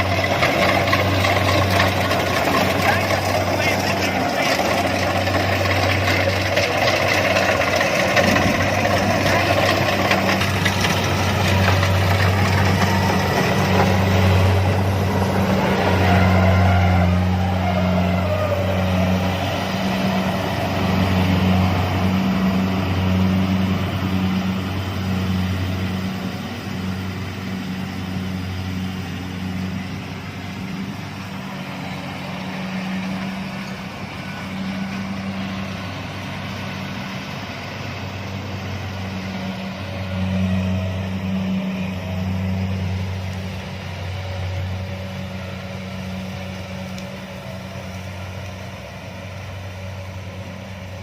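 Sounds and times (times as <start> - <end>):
combine harvester engine hum: 0.0 - 51.0.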